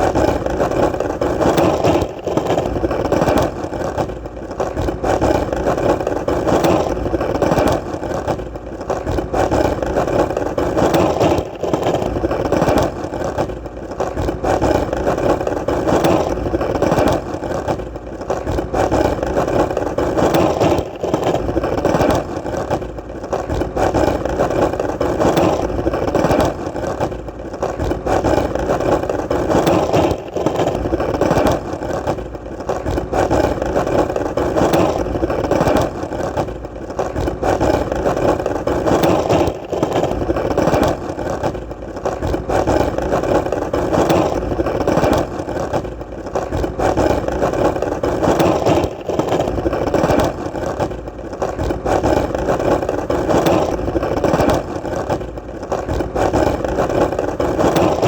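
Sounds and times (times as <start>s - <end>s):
skateboard wheels rolling: 0.0s - 58.0s.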